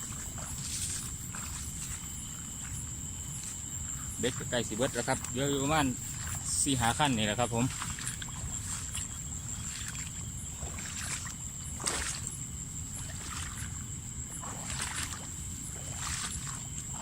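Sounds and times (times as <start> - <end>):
high insect trill: 0.0 - 17.0
soft paddle strokes: 0.0 - 17.0
water sloshing around a boat: 0.0 - 17.0.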